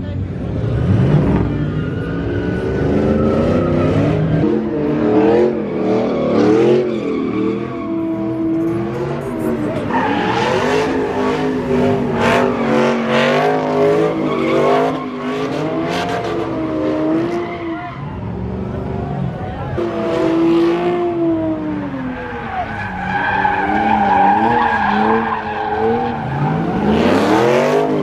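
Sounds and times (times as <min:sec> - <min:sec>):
car engine revving: 0:00.0 - 0:28.0
tires squealing: 0:00.3 - 0:28.0.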